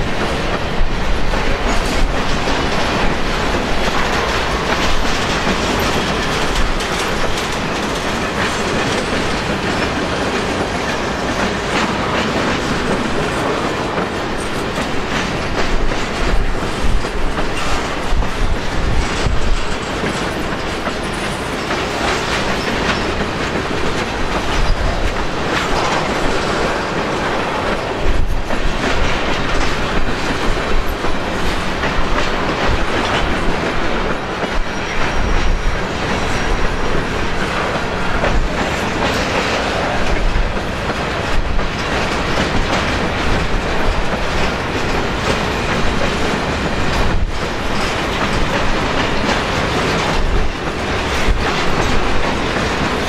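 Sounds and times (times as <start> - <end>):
freight train wheels clicking: 0.0 - 53.0
wind buffeting microphone: 0.0 - 53.0.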